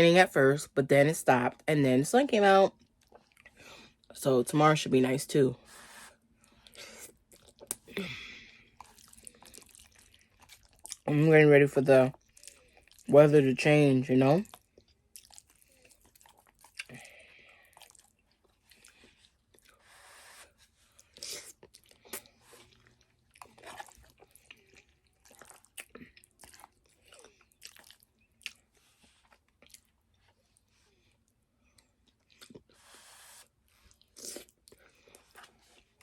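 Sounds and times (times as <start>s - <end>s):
wet chewing with smacks: 2.8s - 4.2s, 5.8s - 11.1s, 12.1s - 13.1s, 14.4s - 36.0s.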